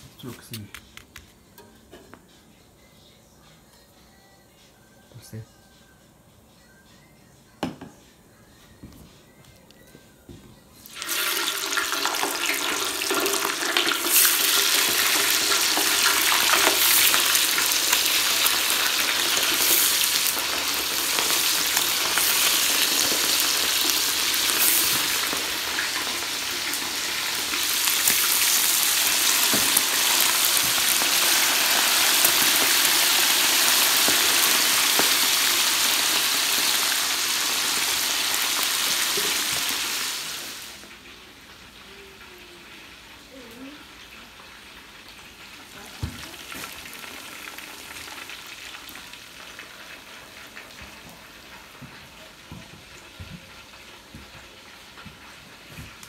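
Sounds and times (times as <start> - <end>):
oil sizzling and popping: 10.8 - 56.0.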